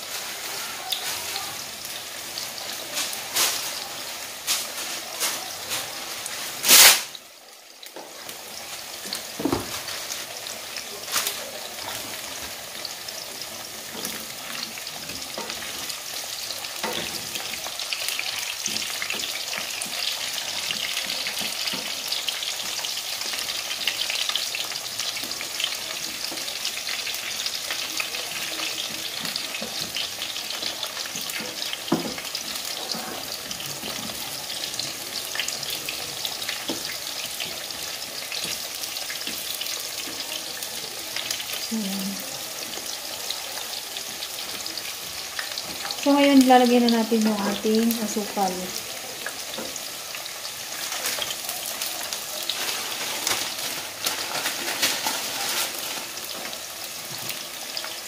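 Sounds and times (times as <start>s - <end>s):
food deep-frying in oil: 0.0s - 58.0s.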